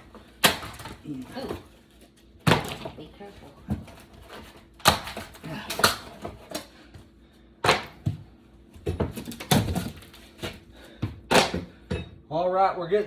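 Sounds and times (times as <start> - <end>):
flooring being pried up: 0.0 - 7.0, 7.6 - 12.0.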